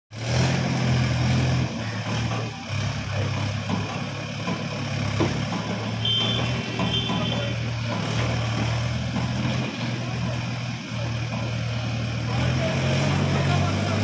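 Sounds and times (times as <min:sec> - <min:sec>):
tractor diesel engine under load: 0:00.1 - 0:14.0.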